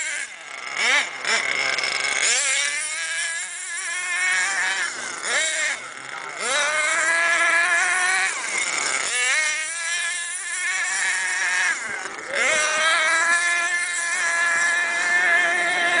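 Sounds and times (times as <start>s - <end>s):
small engine whining at high revs: 0.0s - 16.0s.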